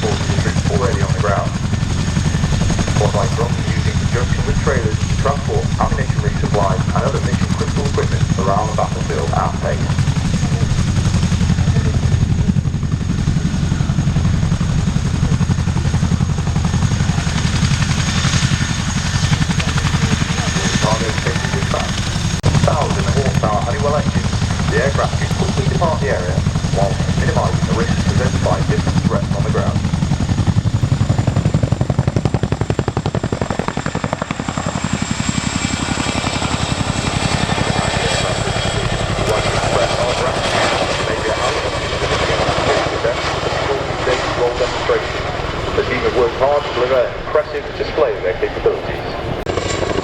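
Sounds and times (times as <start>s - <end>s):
helicopter rotors throbbing: 0.0s - 50.0s.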